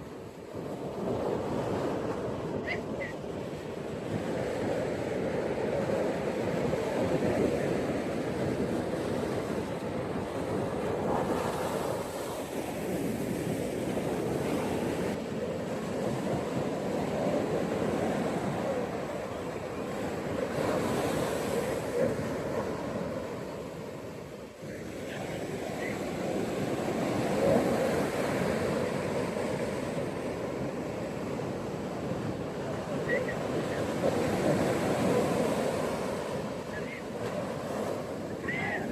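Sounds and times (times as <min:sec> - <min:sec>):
ocean waves washing onto beach: 0:00.0 - 0:38.9.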